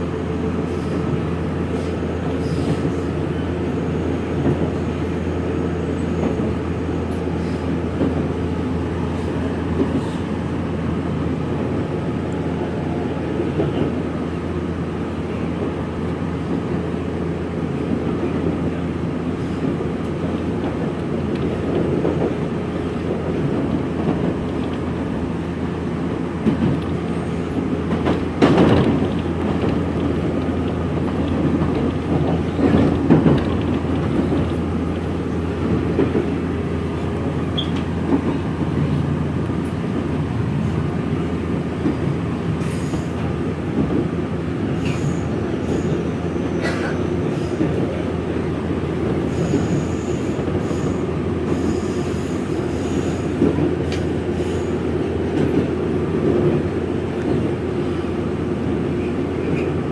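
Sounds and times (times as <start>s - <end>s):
train wheels and motors rumbling: 0.0s - 59.9s.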